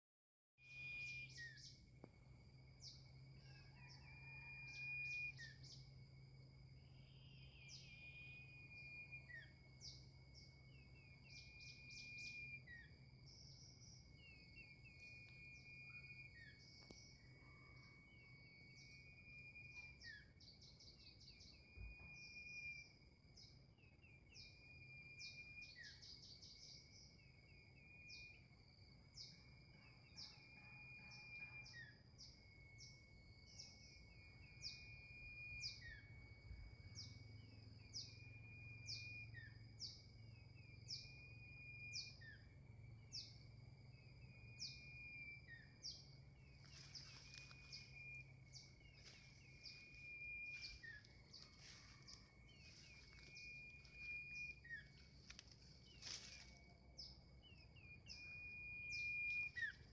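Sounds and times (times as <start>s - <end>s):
bird song chirping: 0.6s - 59.9s
high insect drone: 0.7s - 59.9s.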